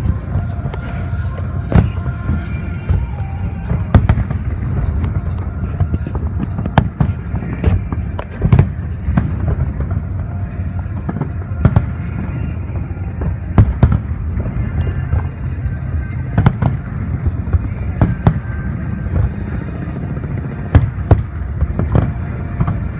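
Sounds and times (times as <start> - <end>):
fireworks bangs and crackles: 0.0 - 22.9
steady low rumble: 0.0 - 22.9.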